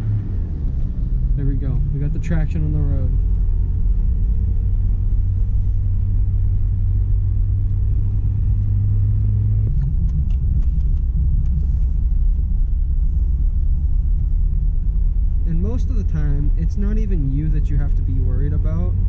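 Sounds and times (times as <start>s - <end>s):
car engine drone: 0.0s - 19.0s
rough engine rumble: 0.0s - 19.0s.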